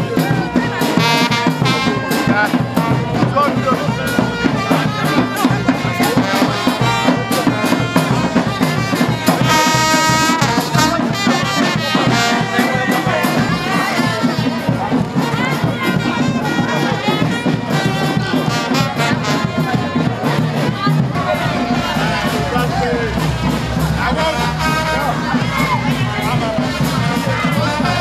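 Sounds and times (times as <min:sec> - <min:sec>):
brass band horns: 0:00.0 - 0:28.0
steady drum beat: 0:00.0 - 0:28.0.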